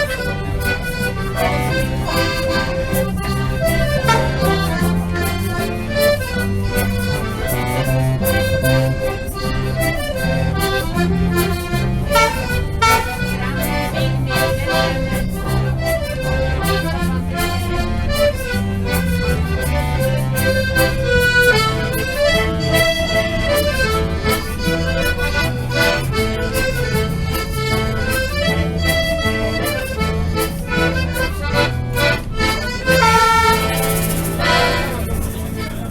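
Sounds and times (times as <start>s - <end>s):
instrumental melody: 0.0s - 35.9s
rhythmic alternating bass: 0.0s - 35.9s.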